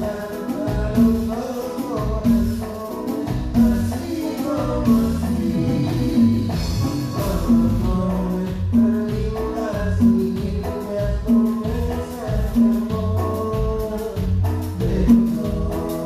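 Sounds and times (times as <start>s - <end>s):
bass: 0.0s - 1.4s, 2.0s - 16.0s
drums: 0.0s - 16.0s
percussion: 0.0s - 16.0s
person singing: 0.0s - 16.0s.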